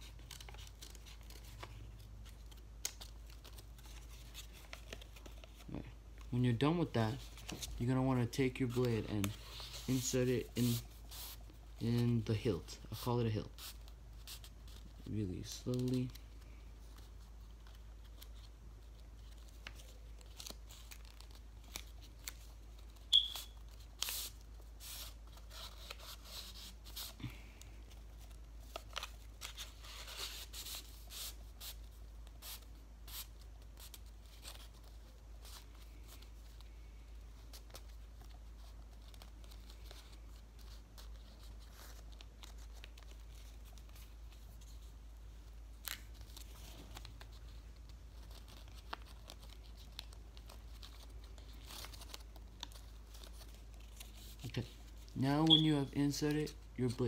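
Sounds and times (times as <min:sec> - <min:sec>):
paper rustling and crinkling: 0:00.0 - 0:55.2.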